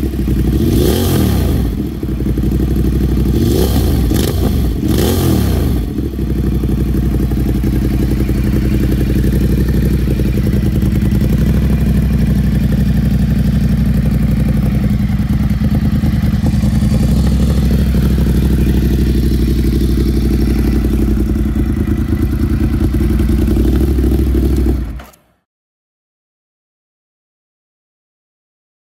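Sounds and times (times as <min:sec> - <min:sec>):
motorcycle engine idling: 0:00.0 - 0:25.1.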